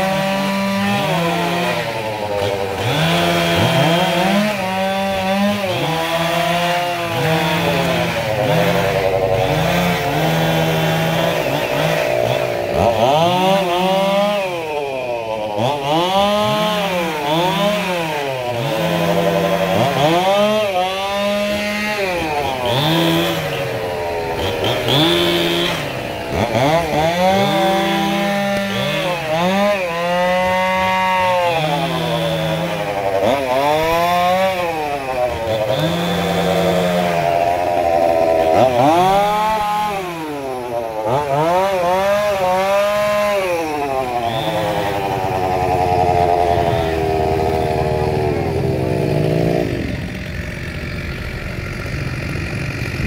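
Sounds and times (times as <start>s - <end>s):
chainsaw revving and idling: 0.0s - 53.0s.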